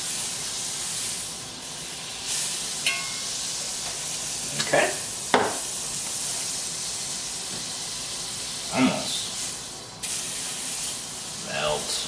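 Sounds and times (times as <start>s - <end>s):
butter sizzling in a skillet: 0.0s - 12.0s.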